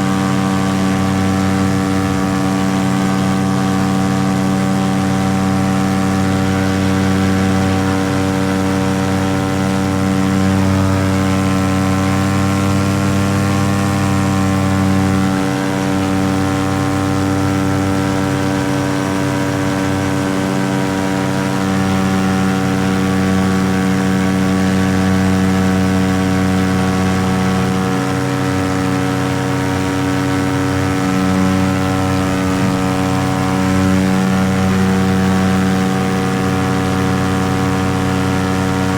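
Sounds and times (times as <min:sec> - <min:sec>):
paramotor engine droning: 0:00.0 - 0:38.9.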